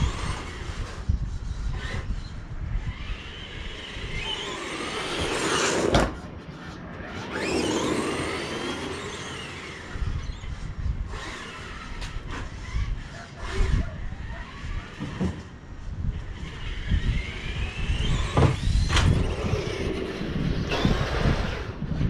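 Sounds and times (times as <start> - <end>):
toy car motor whining: 0.0 - 22.0.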